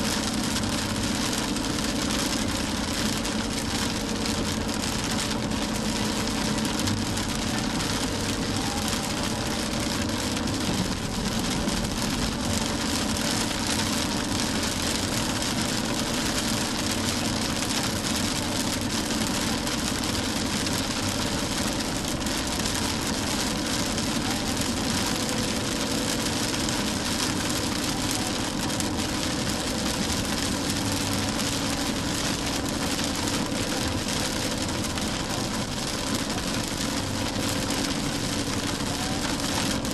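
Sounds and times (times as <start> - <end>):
car engine hum: 0.0 - 39.9
rain and tyres hissing: 0.0 - 39.9.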